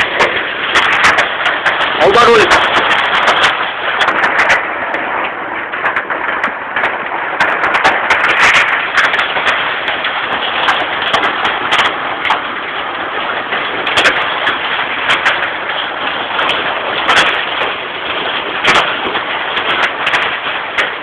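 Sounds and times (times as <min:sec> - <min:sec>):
hailstones clicking: 0:00.0 - 0:21.0
heavy rain hissing: 0:00.0 - 0:21.0.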